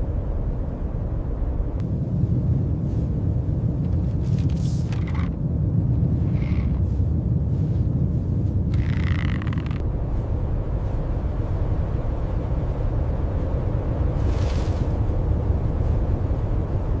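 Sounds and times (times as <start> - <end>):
deep rumble: 0.0 - 17.0.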